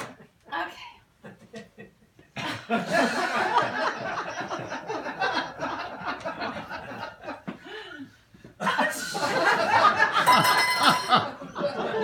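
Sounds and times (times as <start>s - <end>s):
small audience laughing: 1.2s - 7.6s, 8.6s - 12.0s.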